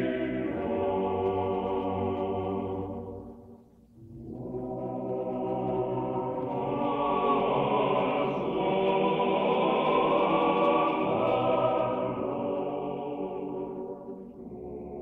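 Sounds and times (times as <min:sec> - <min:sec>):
a cappella choir singing chords: 0:00.0 - 0:15.0.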